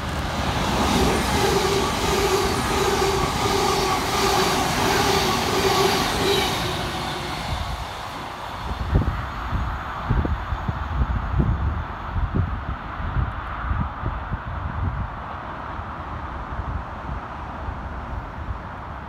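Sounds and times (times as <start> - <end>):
pulsing train hum: 0.0 - 19.0
train passing at speed: 0.0 - 19.0
wind buffeting microphone: 0.0 - 19.0.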